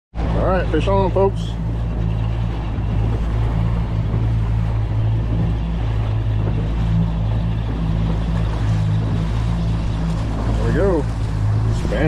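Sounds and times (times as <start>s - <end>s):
outboard motor running: 0.1s - 12.0s
water rushing past hull: 0.1s - 12.0s.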